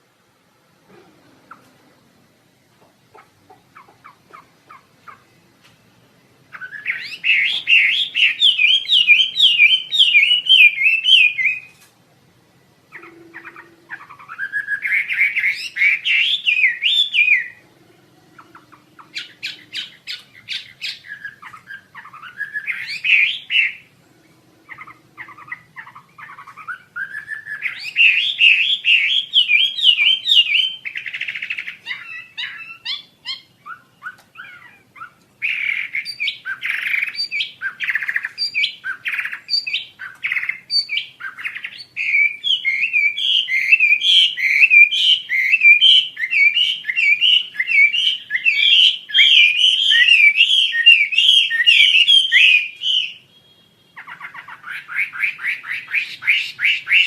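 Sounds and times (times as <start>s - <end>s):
songbird warbling: 2.8s - 5.5s, 6.5s - 11.8s, 12.9s - 57.0s
bird chirps: 6.2s - 11.9s, 12.8s - 57.0s.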